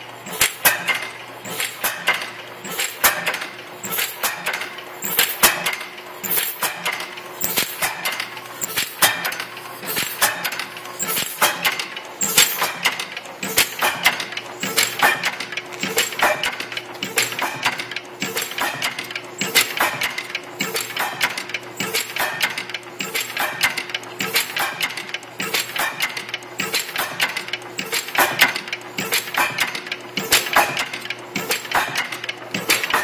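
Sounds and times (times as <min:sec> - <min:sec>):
stationary engine metallic clicks: 0:00.0 - 0:33.0.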